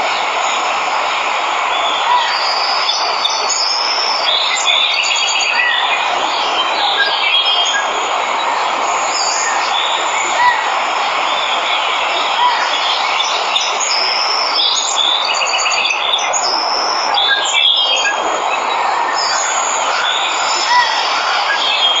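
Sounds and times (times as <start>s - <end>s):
waterfall rushing: 0.0s - 22.0s
birds chirping and trilling: 1.7s - 8.2s, 8.8s - 22.0s.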